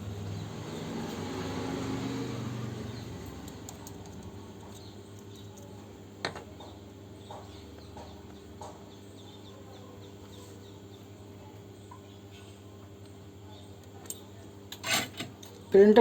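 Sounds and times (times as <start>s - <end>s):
birds chirping: 0.0s - 14.6s
low electrical hum: 0.0s - 16.0s.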